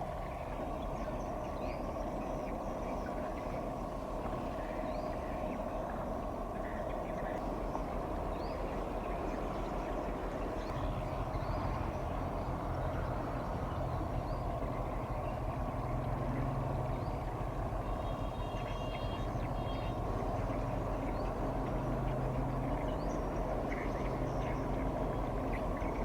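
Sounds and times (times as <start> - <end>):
ship engine drone: 0.0 - 26.0
small birds chirping: 0.2 - 26.0.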